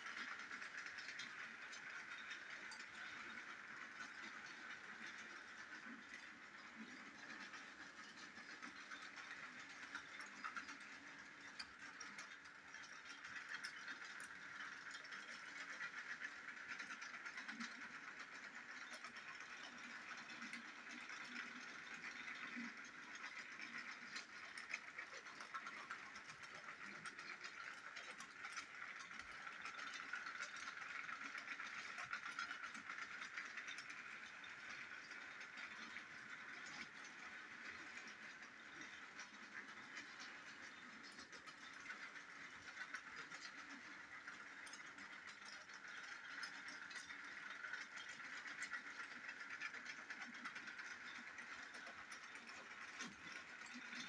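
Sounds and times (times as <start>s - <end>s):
toy train motor whirring: 0.0s - 54.0s
wheels clicking and rattling: 0.0s - 54.0s.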